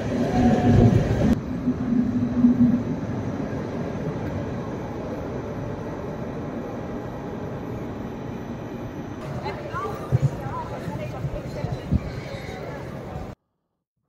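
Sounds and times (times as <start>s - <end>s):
electric train humming: 0.0s - 13.4s
train low rumble: 0.0s - 13.4s.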